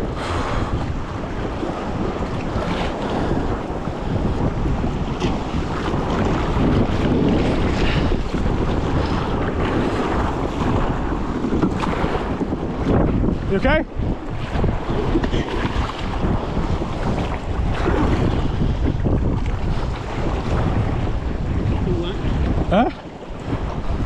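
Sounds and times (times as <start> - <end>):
paddle splashes: 0.0 - 24.0
waves slapping against a kayak: 0.0 - 24.0
wind buffeting microphone: 0.0 - 24.0.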